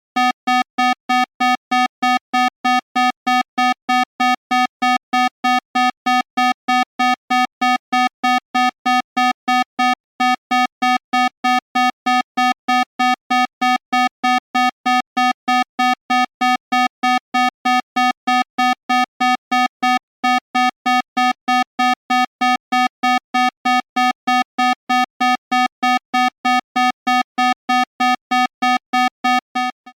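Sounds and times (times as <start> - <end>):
rapid electronic alarm beeps: 0.2 - 30.0.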